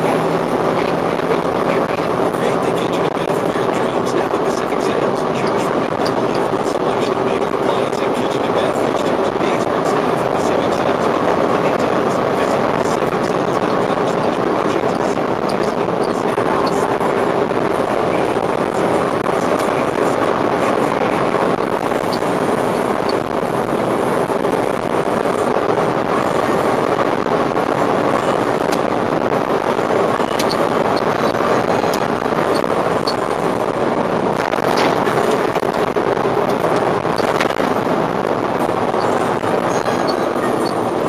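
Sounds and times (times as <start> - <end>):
truck engine and tyre drone: 0.0 - 41.0.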